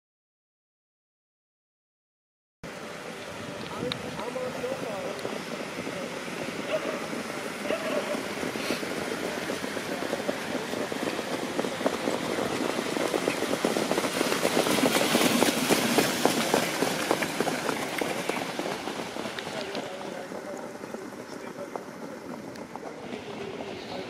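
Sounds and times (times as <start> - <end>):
wheels and harness rattling: 2.7 - 24.0
hoofbeats on sand: 3.7 - 24.0.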